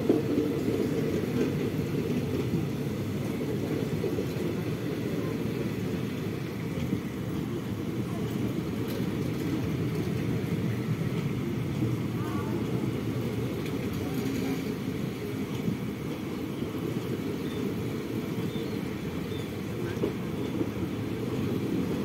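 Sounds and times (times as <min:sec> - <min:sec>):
train rumbling past on rails: 0:00.0 - 0:22.0.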